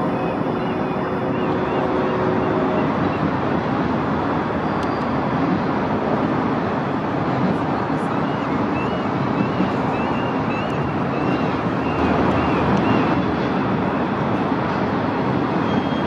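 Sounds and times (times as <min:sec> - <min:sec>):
distant city traffic roar: 0:00.0 - 0:16.0.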